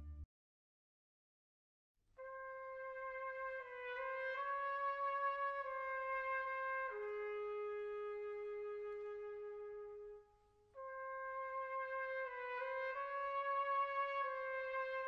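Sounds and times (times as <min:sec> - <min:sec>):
solo trumpet slow melody: 0:02.2 - 0:15.0.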